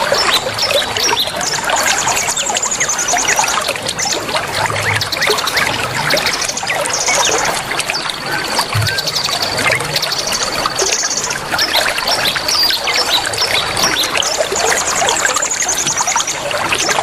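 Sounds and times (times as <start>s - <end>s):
songbirds chirping: 0.0s - 17.0s
trickling water: 0.0s - 17.0s.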